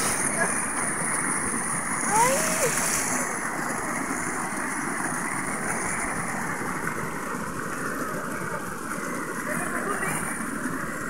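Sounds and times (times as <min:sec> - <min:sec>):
stream running over stones: 0:00.0 - 0:11.0.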